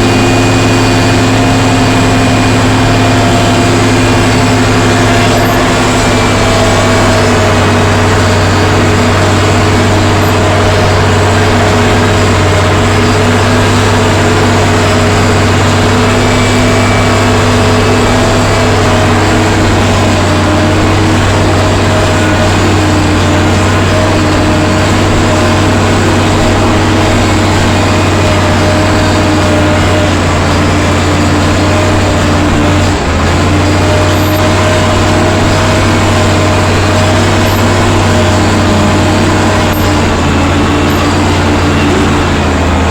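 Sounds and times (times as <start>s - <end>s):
diesel engine droning: 0.0s - 42.9s.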